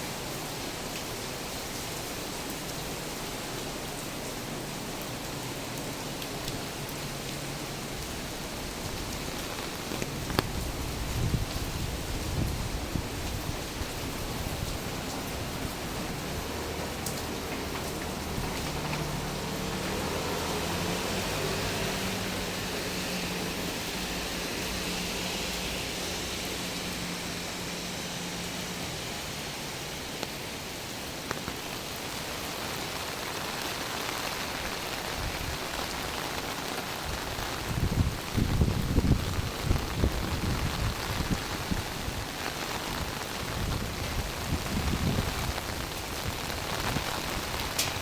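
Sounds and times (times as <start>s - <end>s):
rain falling on street: 0.0s - 48.0s.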